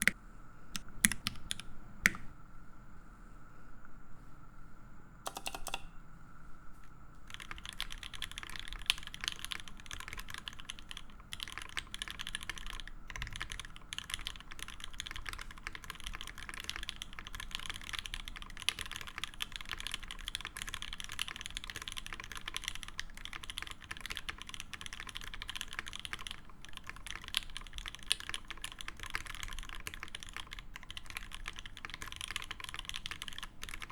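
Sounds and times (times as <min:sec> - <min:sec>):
mechanical keyboard typing: 0:00.8 - 0:02.2, 0:05.3 - 0:05.9, 0:07.3 - 0:33.9.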